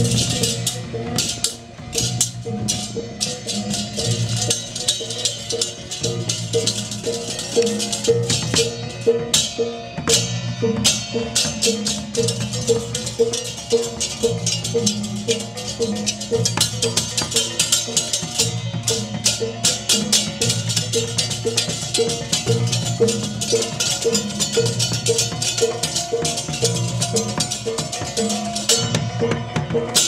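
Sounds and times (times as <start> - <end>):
clashing cymbals: 0.0 - 30.0
drums: 0.0 - 30.0
small gong beating: 0.0 - 30.0.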